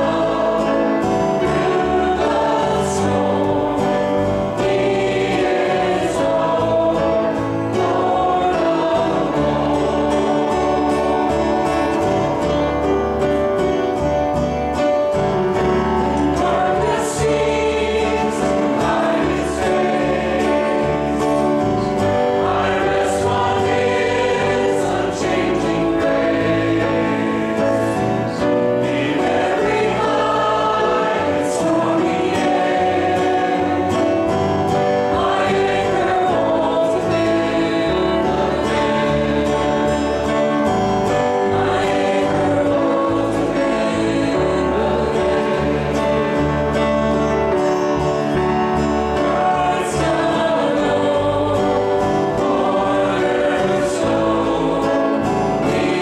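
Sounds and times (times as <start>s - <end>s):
voices singing together: 0.0s - 13.0s, 16.0s - 56.0s
guitars: 0.0s - 56.0s
piano: 0.0s - 56.0s.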